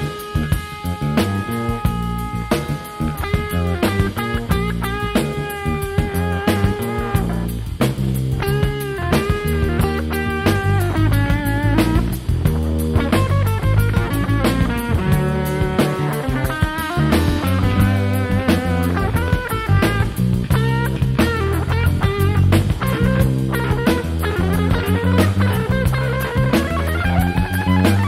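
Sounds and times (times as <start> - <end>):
drum kit: 0.0 - 28.0
electric bass groove: 0.0 - 28.0
electric guitar lines: 0.0 - 28.0.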